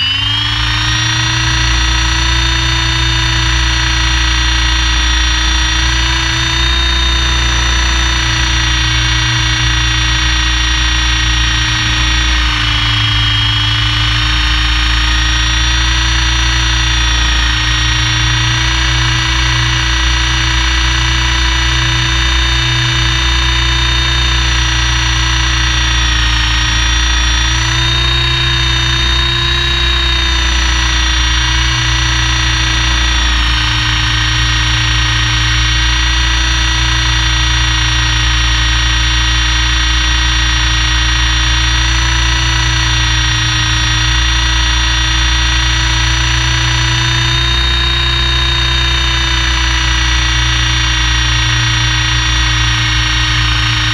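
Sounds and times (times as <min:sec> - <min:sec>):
helicopter mechanical whine: 0:00.0 - 0:53.9
low drone: 0:00.0 - 0:53.9.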